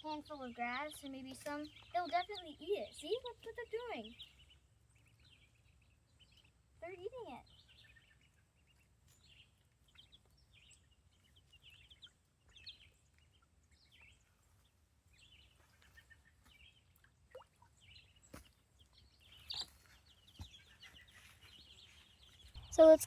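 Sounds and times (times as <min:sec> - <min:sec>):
chicks and ducklings peeping: 0:00.0 - 0:23.0.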